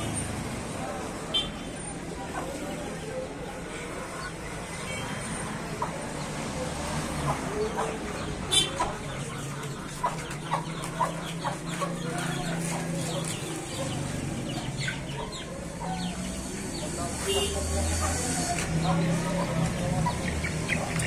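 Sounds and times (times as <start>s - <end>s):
chickens clucking: 0.6s - 21.0s.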